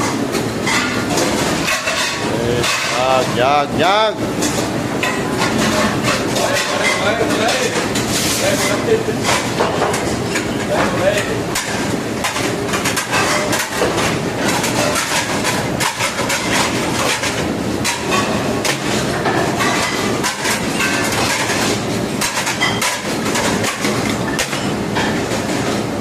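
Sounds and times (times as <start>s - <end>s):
kitchen machinery and ventilation roar: 0.0s - 26.0s
metal pans and utensils clattering: 0.0s - 26.0s.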